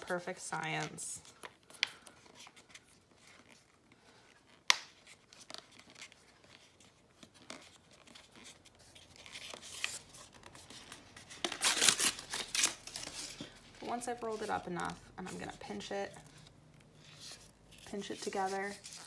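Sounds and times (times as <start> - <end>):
paper crinkling and rustling: 0.8 - 19.0.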